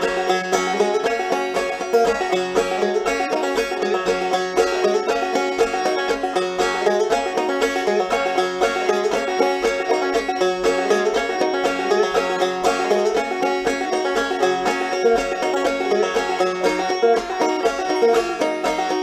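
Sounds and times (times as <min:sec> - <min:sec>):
picked string instrument: 0:00.0 - 0:19.0.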